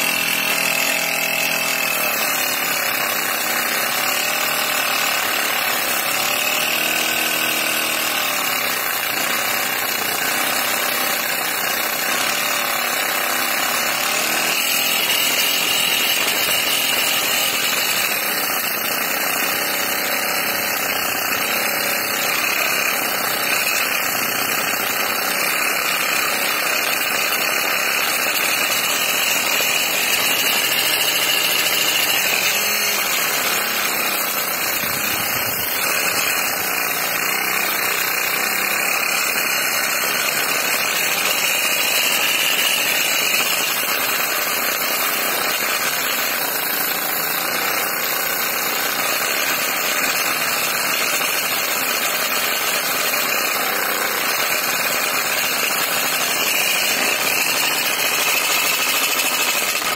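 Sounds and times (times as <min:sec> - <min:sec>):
small electric motor running: 0:00.0 - 0:59.9.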